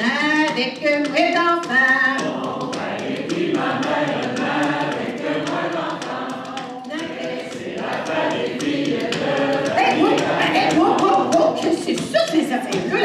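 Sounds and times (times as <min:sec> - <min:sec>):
steady sharp taps: 0:00.0 - 0:13.0
group singing folk song: 0:02.0 - 0:13.0.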